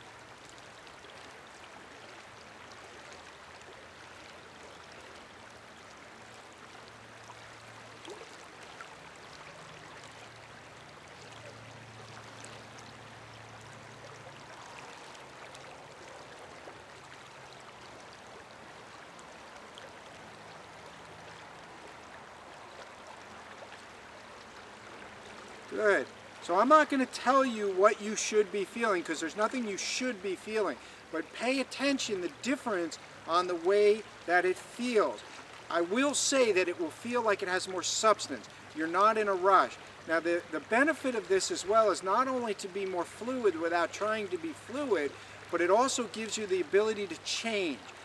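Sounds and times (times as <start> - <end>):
river flowing: 0.0 - 48.0.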